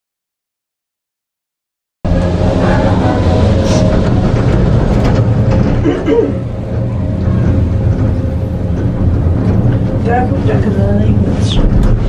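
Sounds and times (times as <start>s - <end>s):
gondola running rumble: 2.0s - 12.0s
constant hum: 2.1s - 12.0s.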